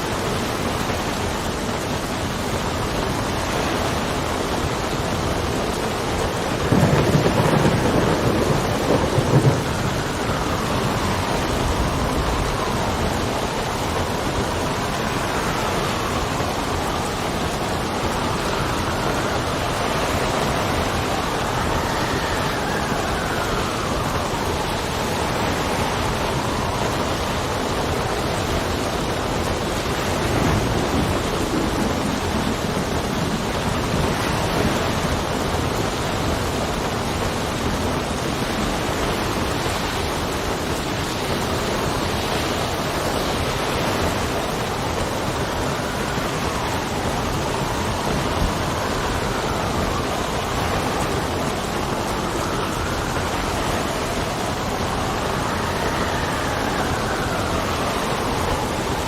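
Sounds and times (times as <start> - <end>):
heavy rain: 0.0 - 59.0
whistling wind gusts: 0.0 - 59.0.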